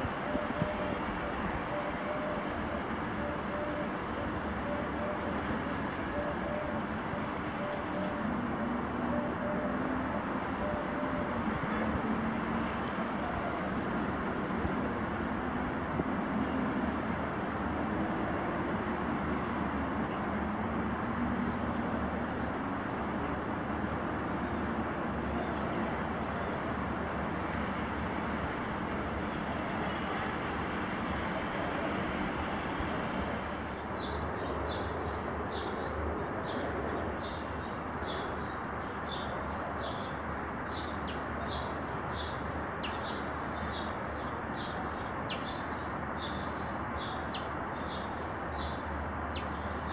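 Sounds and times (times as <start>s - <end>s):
distant road traffic: 0.0s - 49.9s.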